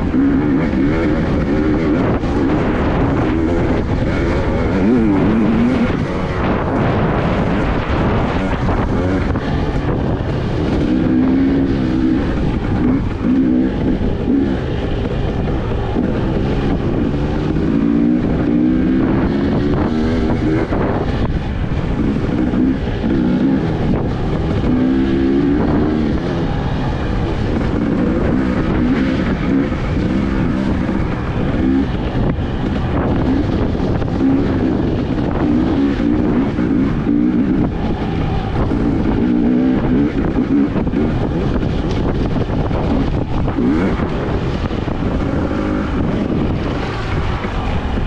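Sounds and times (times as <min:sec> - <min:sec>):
two-stroke motorcycle engine revving: 0:00.0 - 0:48.0.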